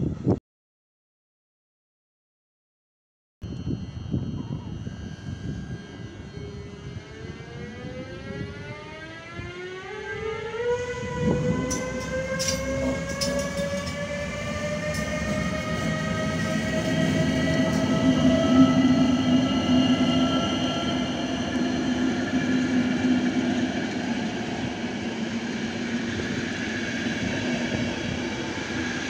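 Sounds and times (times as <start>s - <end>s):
traction motors whining: 3.5s - 29.0s
coaches rumbling on rails: 4.1s - 29.0s.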